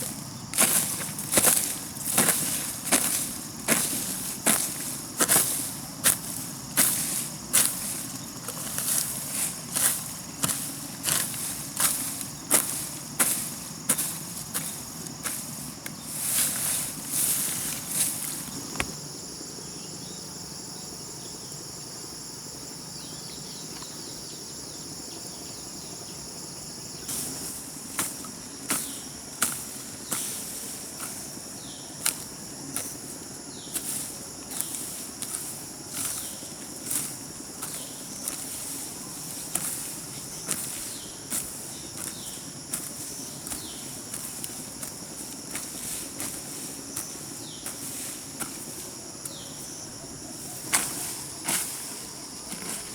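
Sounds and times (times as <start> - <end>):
hoe chopping into soil: 0.0 - 19.0, 27.1 - 49.8, 50.5 - 52.9
insects droning: 0.0 - 52.9.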